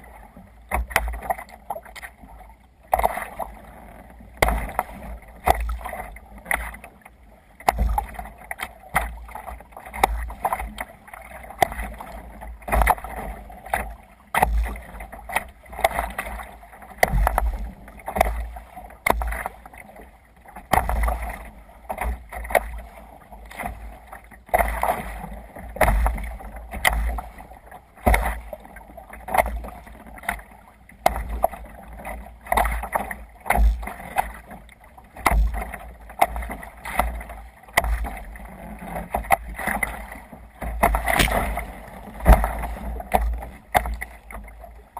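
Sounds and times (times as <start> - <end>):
water splashing against kayak: 0.0 - 44.9.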